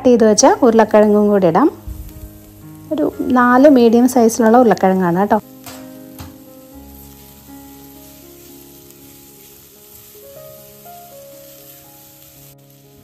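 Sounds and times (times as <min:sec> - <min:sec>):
soft background music: 0:00.0 - 0:13.0
potatoes sizzling in oil: 0:00.1 - 0:13.0.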